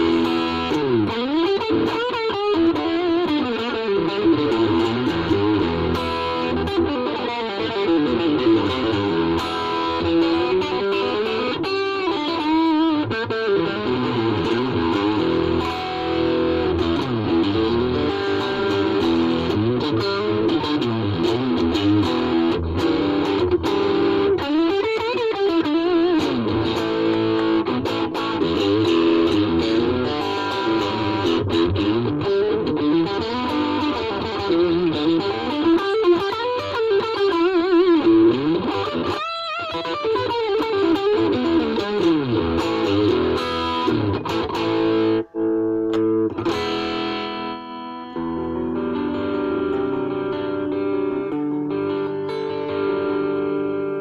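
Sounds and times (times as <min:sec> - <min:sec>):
electric guitar with string bends: 0:00.0 - 0:54.0.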